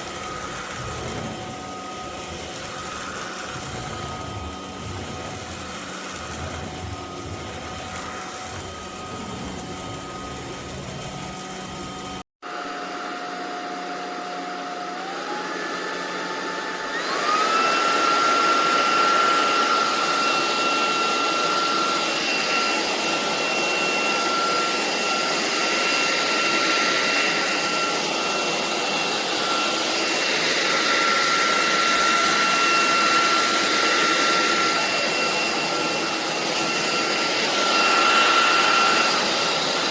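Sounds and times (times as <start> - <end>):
stick vacuum motor whine: 0.0 - 39.9.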